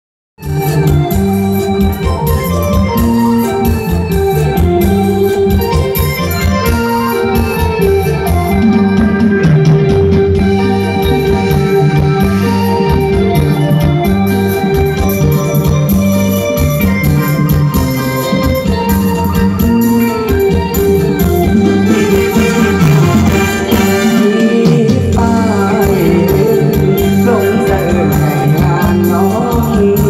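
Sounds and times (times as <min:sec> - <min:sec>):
electronic keyboard with organ sound: 0:00.4 - 0:30.0
steady drum beat: 0:00.4 - 0:30.0.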